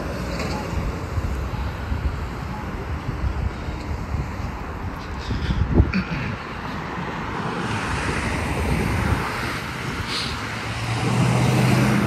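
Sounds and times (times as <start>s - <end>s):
road traffic passing: 0.0s - 12.0s
wind buffeting microphone: 0.7s - 12.0s.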